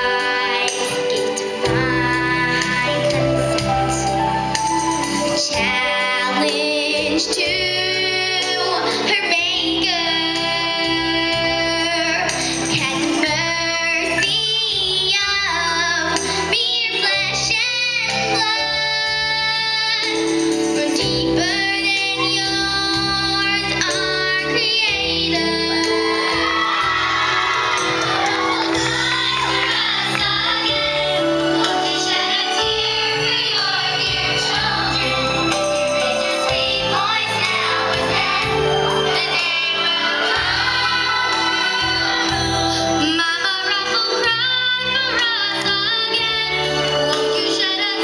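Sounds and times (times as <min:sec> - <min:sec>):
woman singing into microphone: 0:00.0 - 0:04.2, 0:05.2 - 0:48.0
musical accompaniment: 0:00.0 - 0:48.0.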